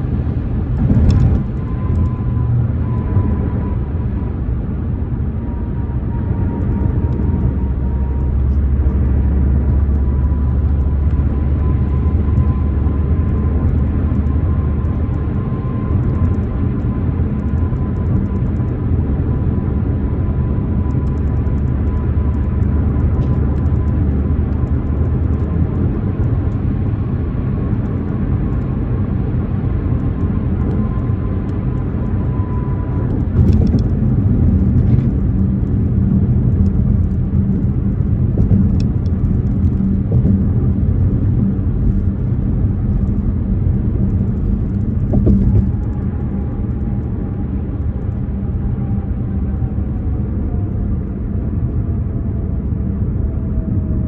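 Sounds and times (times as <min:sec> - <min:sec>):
car engine running: 0:00.0 - 0:48.8.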